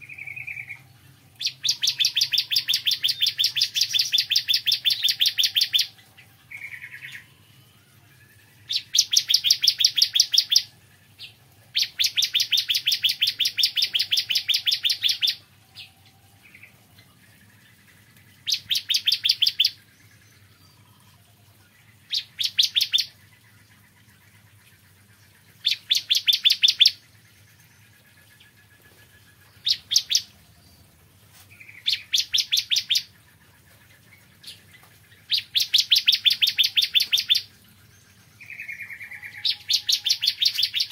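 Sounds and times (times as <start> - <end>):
bird singing rapid trills: 0.0 - 30.9, 31.6 - 40.9.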